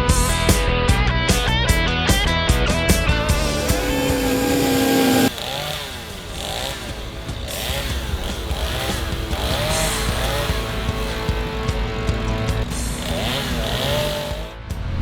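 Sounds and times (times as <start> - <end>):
chainsaw engine revving: 2.7 - 15.0.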